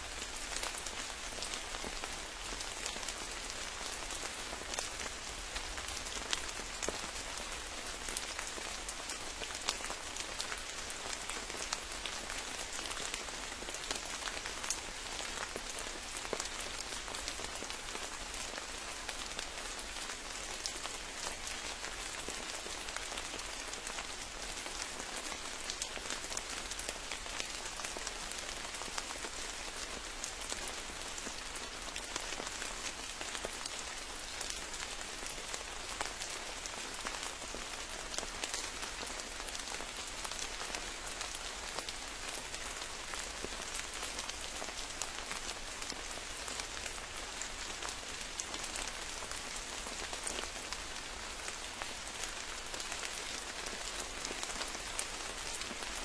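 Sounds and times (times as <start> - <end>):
rain falling on forest: 0.0 - 56.0.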